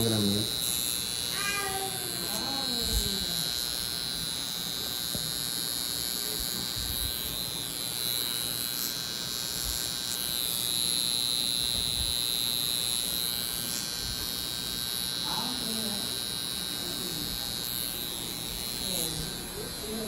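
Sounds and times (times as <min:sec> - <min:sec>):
high-pitched electrical buzz: 0:00.0 - 0:20.0.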